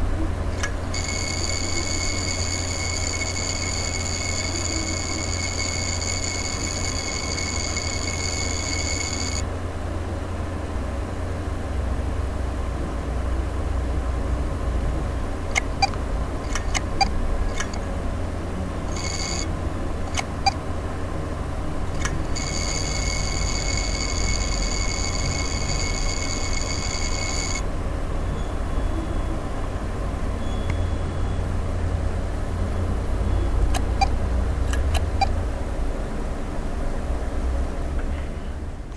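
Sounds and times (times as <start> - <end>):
high whine: 0.0 - 16.0, 22.0 - 37.5
hard drive low hum: 0.0 - 38.9.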